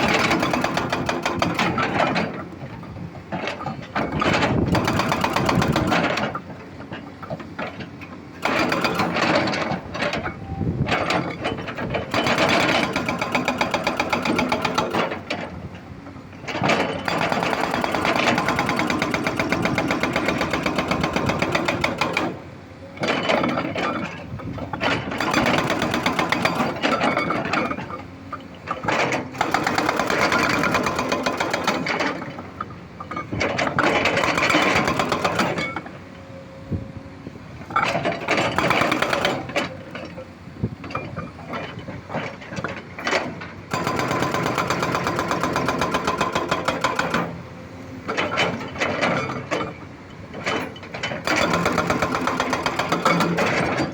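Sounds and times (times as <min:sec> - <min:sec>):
excavator diesel engine clattering: 0:00.0 - 0:53.9.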